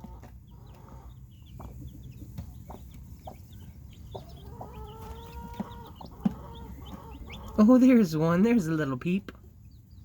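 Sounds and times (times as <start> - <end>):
hen clucking: 0.0 - 9.0
chicks peeping: 0.0 - 10.0.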